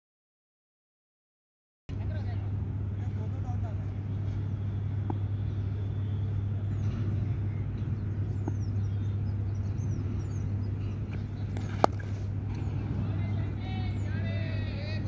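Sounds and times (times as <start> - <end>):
steady low hum: 1.9 - 15.0.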